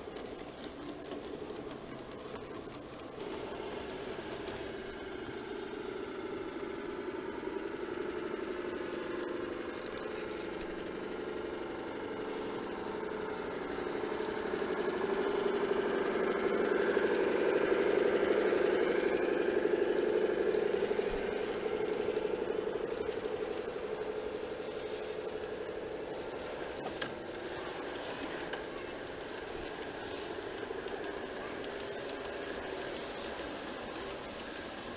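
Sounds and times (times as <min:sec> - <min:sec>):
model train humming: 0:00.0 - 0:34.9.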